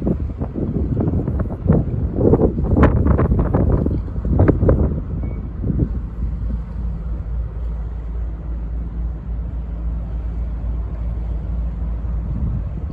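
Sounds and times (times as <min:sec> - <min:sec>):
wind noise on microphone: 0:00.0 - 0:08.6, 0:10.4 - 0:12.9
low ship engine rumble: 0:00.0 - 0:12.9.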